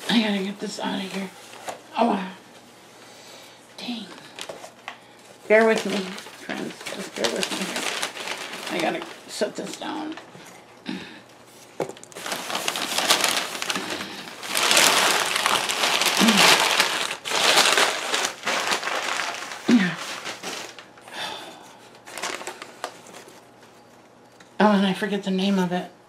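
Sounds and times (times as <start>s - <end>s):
paper and plastic wrap crinkling: 0.0s - 2.7s, 3.9s - 10.6s, 11.4s - 24.4s.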